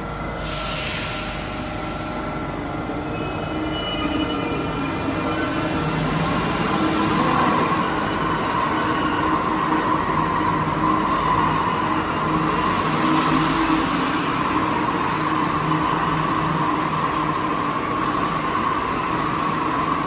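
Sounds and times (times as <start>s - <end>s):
train equipment hum and whine: 0.0s - 20.0s.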